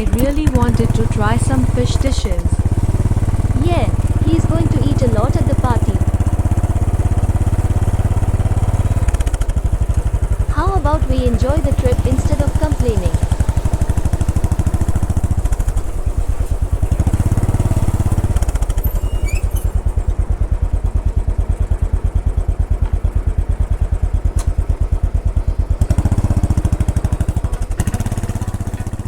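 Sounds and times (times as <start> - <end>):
motorcycle engine thumping: 0.0 - 29.0.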